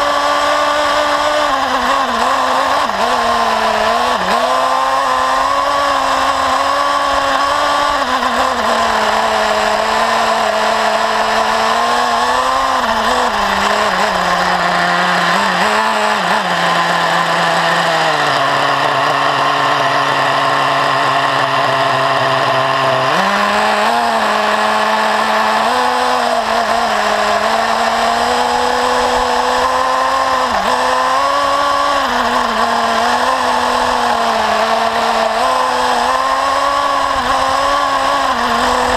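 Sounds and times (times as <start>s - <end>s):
small nitro engine revving: 0.0s - 38.9s.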